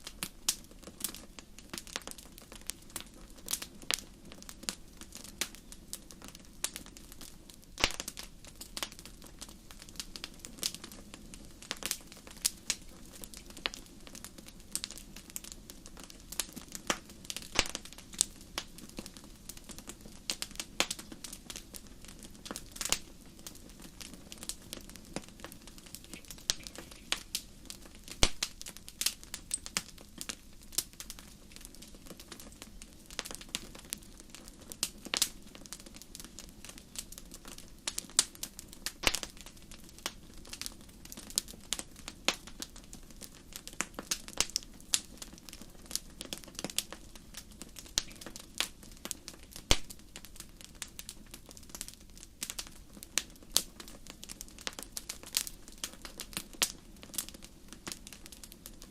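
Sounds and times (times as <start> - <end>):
hiss of burning logs: 0.0 - 58.9
wood fire crackling and popping: 0.0 - 58.9.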